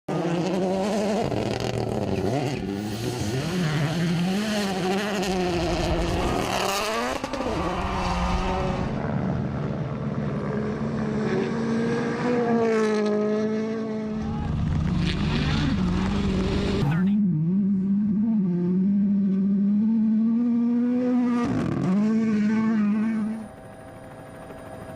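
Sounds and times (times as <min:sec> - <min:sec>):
rally car engines revving: 0:00.1 - 0:23.5.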